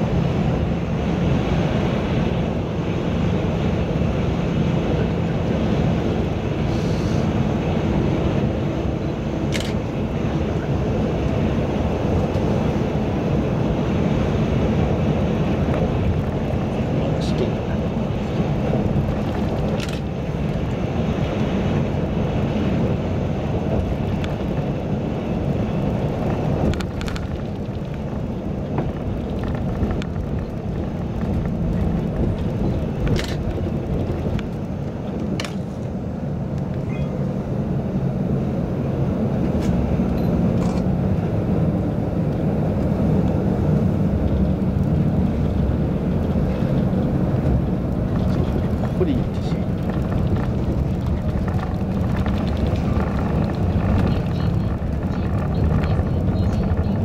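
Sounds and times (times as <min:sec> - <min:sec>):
bus road and engine noise: 0:00.0 - 0:57.0.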